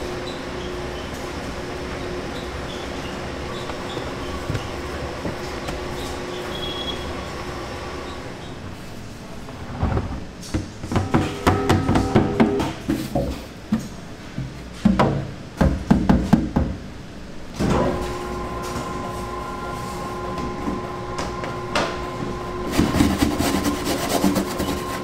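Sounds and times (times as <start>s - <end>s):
steady machine hum: 0.0s - 15.9s, 16.5s - 25.0s.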